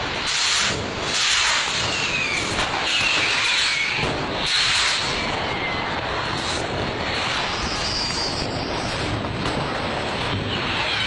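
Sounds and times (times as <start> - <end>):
fireworks fizzing and hissing: 0.0 - 11.0.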